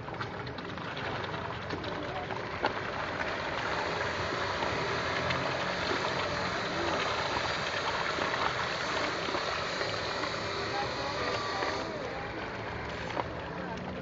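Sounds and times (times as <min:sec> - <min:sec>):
fish thrashing water: 0:00.0 - 0:14.0.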